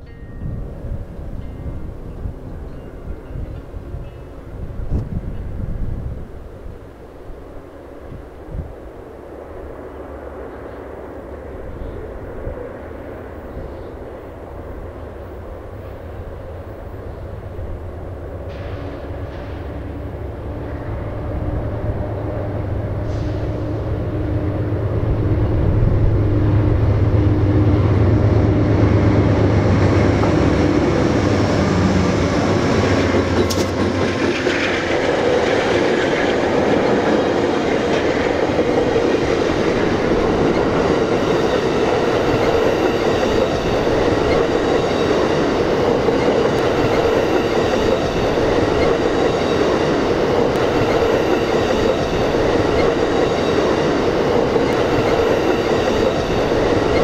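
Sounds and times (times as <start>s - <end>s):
locomotive engines droning: 0.0s - 57.0s
train cars rumbling on rails: 0.0s - 57.0s.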